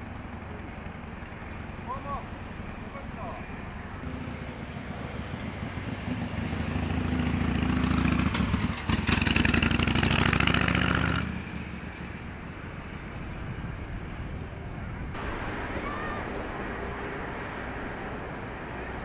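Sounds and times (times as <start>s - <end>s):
vehicle engine passing: 1.3s - 19.0s.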